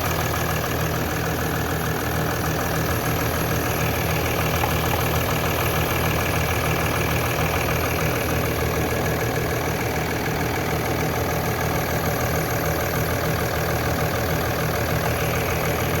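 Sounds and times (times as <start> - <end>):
diesel engine idling with knock: 0.0 - 16.0.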